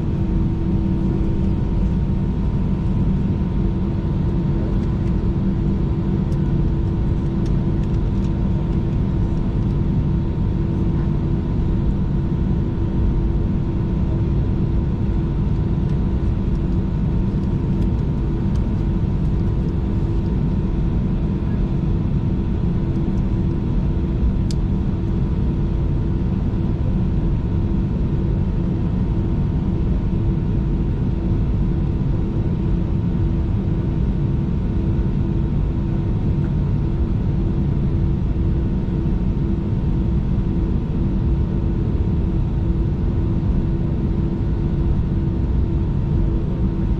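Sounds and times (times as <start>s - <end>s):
airplane cabin rumble and hum: 0.0s - 46.9s
high engine whine: 0.0s - 46.9s.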